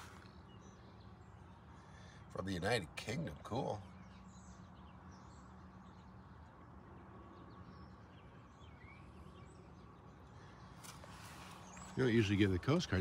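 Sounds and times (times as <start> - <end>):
faint bird chirps: 0.0 - 13.0
low background hum: 0.0 - 13.0.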